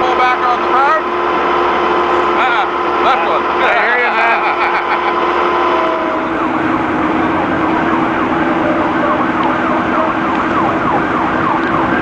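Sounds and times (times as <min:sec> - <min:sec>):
steady engine hum: 0:00.0 - 0:12.0
emergency siren yelping: 0:00.4 - 0:12.0.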